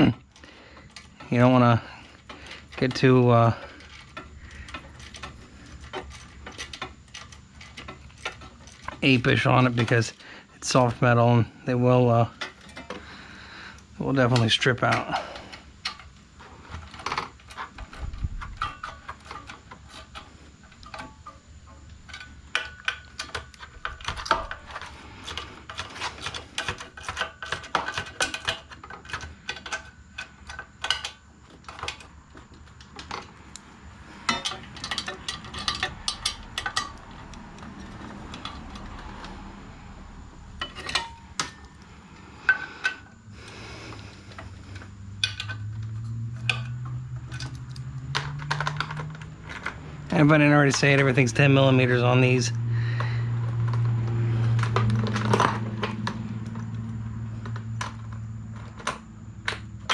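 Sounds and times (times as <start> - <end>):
metal tools clinking: 0.0 - 13.3, 13.9 - 59.9.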